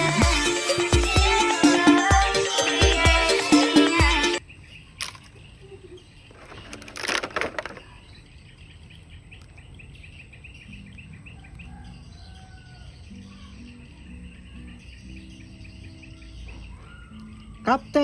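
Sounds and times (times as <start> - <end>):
birds chirping: 2.8 - 18.0.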